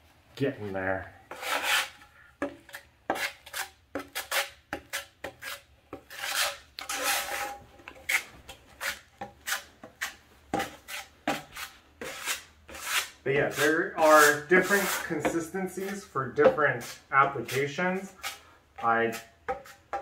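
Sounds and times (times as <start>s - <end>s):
putty knife scraping on metal: 1.3s - 16.0s, 16.8s - 18.4s, 19.0s - 20.0s.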